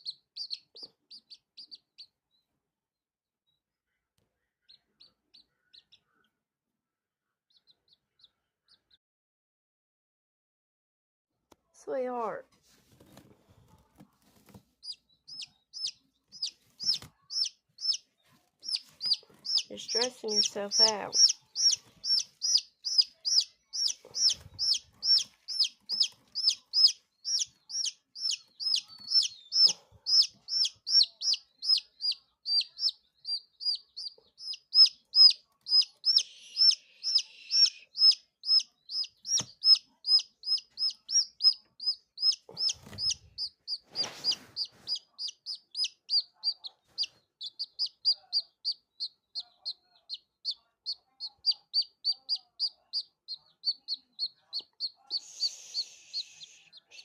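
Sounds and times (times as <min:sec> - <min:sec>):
chick peeping: 0:00.0 - 0:02.2, 0:04.6 - 0:06.4, 0:07.5 - 0:09.0, 0:13.0 - 0:57.0.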